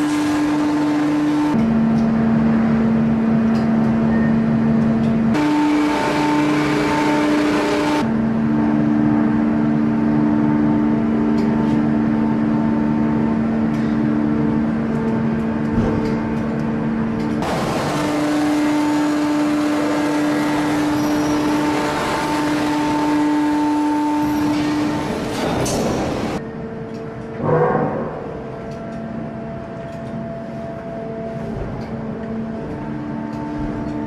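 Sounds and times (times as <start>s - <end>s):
metalworking machine humming: 0.0s - 34.0s.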